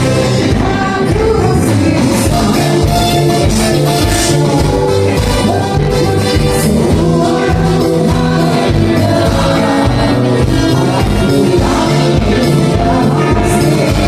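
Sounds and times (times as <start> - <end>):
live band music: 0.0 - 14.0
singing: 0.0 - 14.0.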